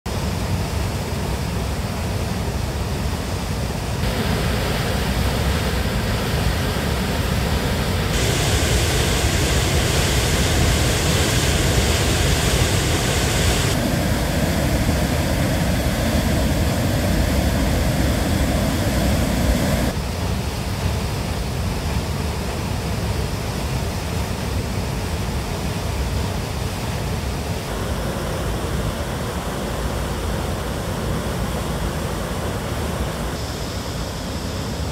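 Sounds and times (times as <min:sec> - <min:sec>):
waterfall roaring: 0:00.1 - 0:34.9.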